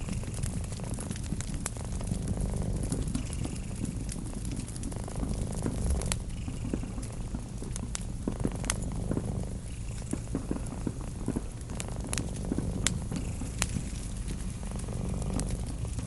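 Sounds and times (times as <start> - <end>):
cat purring: 0.0 - 16.0
wood fire crackling: 0.0 - 16.0.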